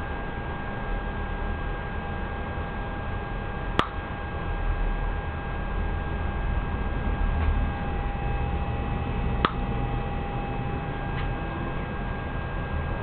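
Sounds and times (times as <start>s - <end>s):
electrical hum with high whine: 0.0s - 13.0s.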